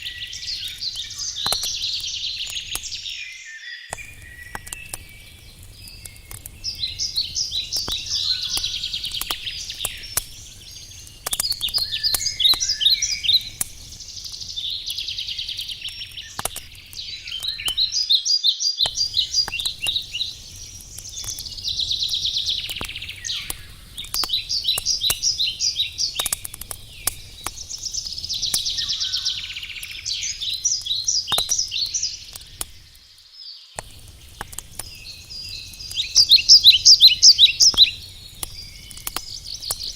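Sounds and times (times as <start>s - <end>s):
campfire crackling and popping: 0.0s - 3.2s, 3.9s - 39.9s
songbird singing: 0.0s - 39.9s.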